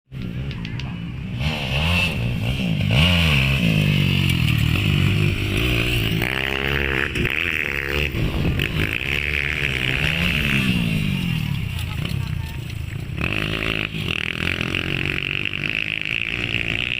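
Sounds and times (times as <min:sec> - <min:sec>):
motocross bike engines revving: 0:00.1 - 0:16.9.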